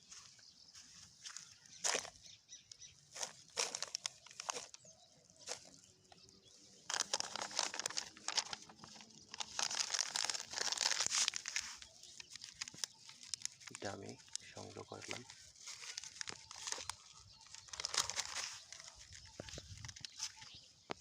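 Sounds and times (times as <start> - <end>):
plastic bag crinkling: 1.8 - 2.2, 2.8 - 21.0.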